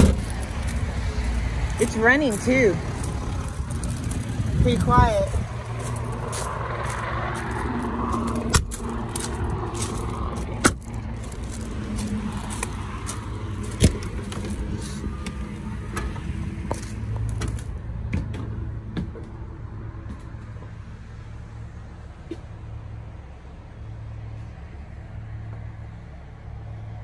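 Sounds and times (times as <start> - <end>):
diesel engine idling: 0.0 - 24.2.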